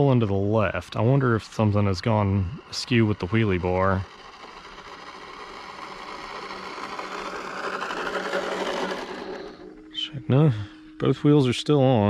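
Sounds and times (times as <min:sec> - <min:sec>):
electric motor whirring: 0:00.0 - 0:11.0.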